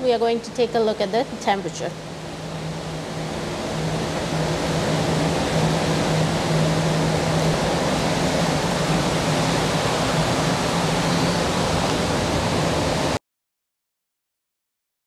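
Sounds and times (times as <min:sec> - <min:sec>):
low hum: 0:00.0 - 0:13.2
steady rushing noise: 0:00.0 - 0:13.2.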